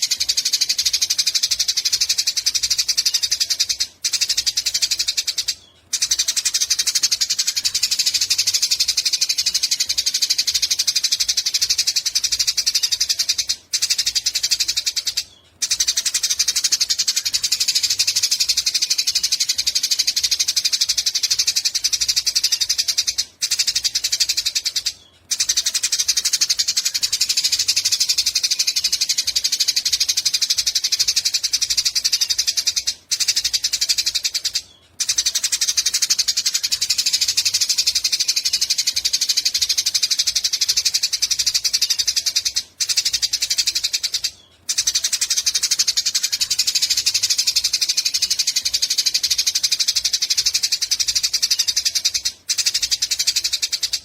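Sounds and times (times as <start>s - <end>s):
sparrow chattering call: 0.0s - 54.0s.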